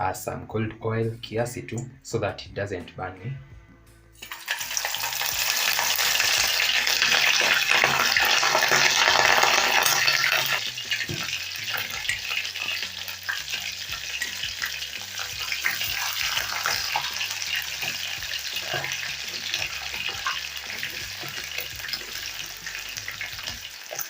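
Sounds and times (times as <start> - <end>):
food sizzling in hot oil: 4.2 - 24.0.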